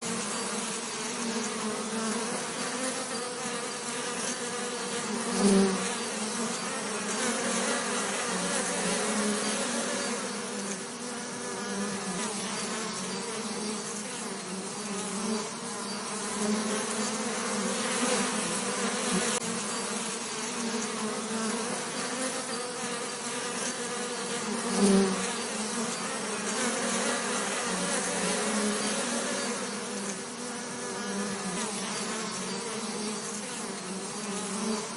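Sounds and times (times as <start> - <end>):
bee passing close: 0.0 - 34.9
bees buzzing: 0.0 - 34.9.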